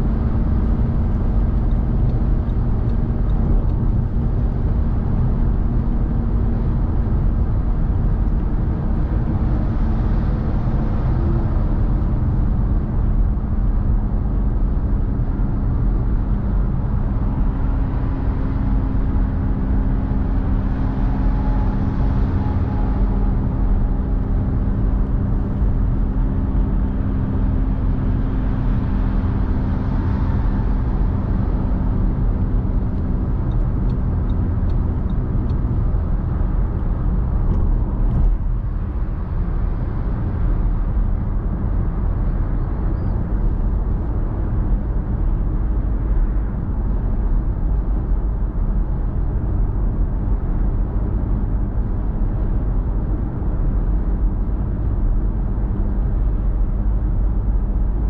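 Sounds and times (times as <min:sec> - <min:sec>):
car tyres and engine rumbling: 0:00.0 - 0:58.0.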